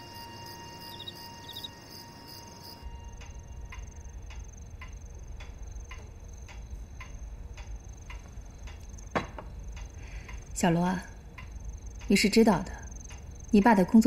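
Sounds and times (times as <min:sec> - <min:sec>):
low hum: 0:00.0 - 0:13.6
cricket chirp: 0:00.0 - 0:14.0
crickets trilling: 0:00.0 - 0:14.0.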